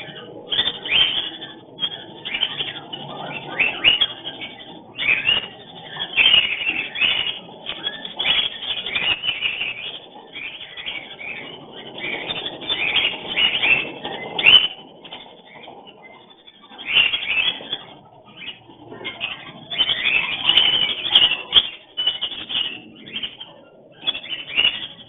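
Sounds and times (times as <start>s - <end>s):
cockatiels calling: 0.0s - 25.0s.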